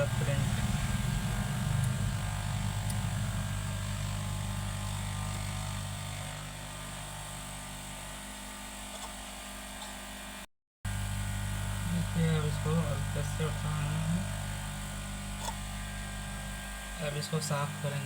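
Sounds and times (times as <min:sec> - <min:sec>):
electrical hum with hiss: 0:00.0 - 0:08.3, 0:10.9 - 0:18.0.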